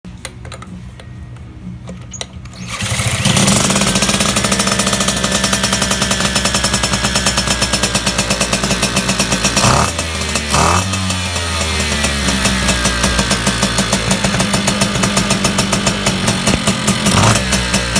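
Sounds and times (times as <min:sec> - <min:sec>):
moped engine revving: 0:02.6 - 0:17.9.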